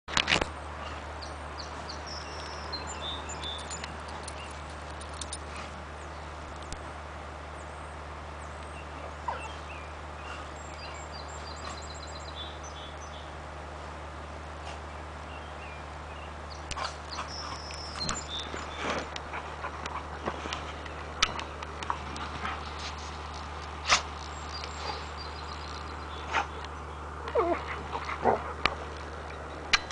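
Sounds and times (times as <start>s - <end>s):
steady outdoor hiss: 0.1s - 29.9s
small birds chirping: 0.7s - 6.8s, 7.6s - 13.4s, 14.9s - 29.9s.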